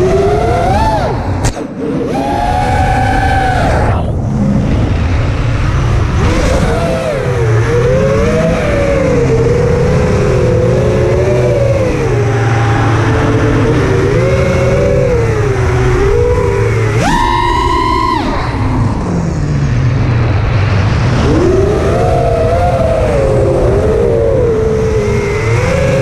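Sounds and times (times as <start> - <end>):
drone motors whining: 0.0 - 26.0
low rumble: 0.9 - 26.0.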